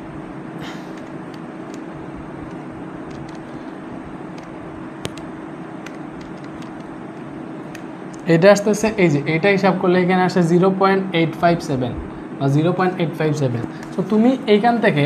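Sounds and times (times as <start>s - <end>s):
low even hum: 0.0s - 15.0s.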